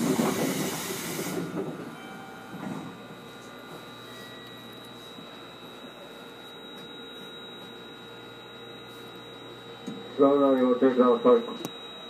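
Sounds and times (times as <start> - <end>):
electric train hum with high whine: 0.0 - 12.0.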